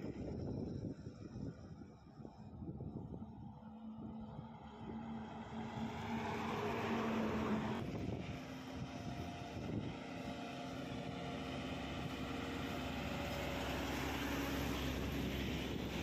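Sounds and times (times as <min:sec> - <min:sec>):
heavy trucks driving past: 0:03.1 - 0:16.0.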